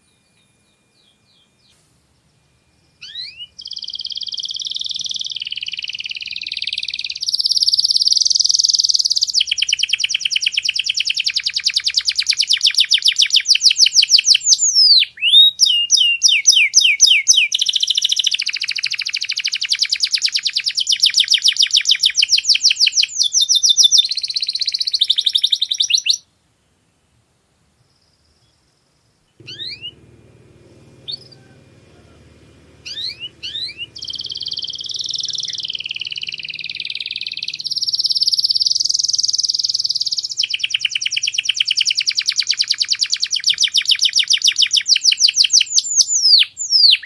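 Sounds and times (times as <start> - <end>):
canary singing: 0.0 - 26.2, 29.3 - 47.0.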